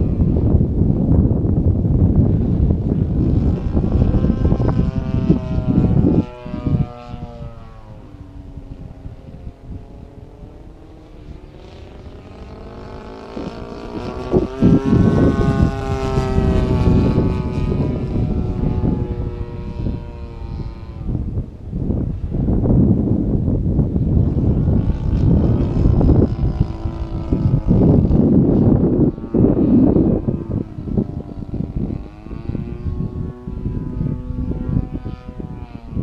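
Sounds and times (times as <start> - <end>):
model plane engine in flight: 0.0 - 36.0
wind rumbling on microphone: 0.0 - 36.0.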